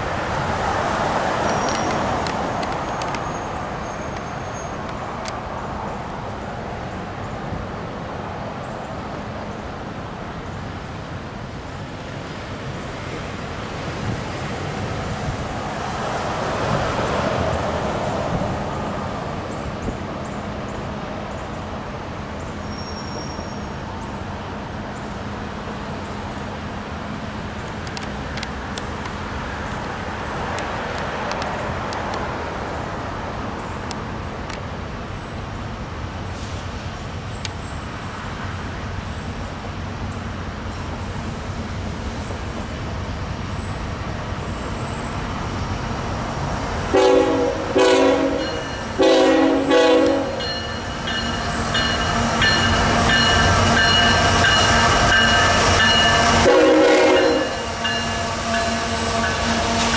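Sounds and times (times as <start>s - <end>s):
vehicles passing: 0.0s - 22.7s, 23.7s - 59.9s
road traffic: 0.0s - 59.9s.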